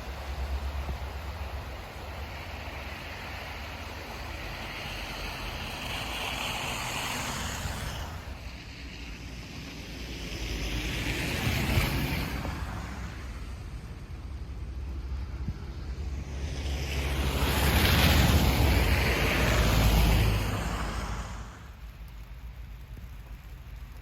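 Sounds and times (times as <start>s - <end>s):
tyres hissing on slushy road: 0.0s - 24.0s
wind rumble on microphone: 0.0s - 24.0s.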